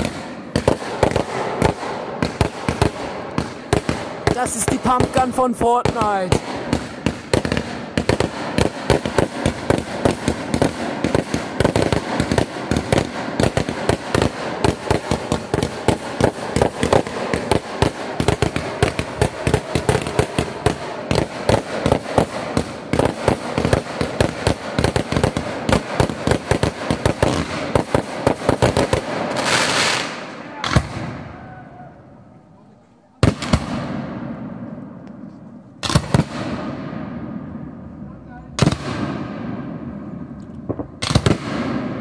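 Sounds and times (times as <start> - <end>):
fireworks bangs: 0.0 - 32.3, 33.1 - 42.0
fireworks crackling: 0.0 - 36.9, 38.3 - 42.0.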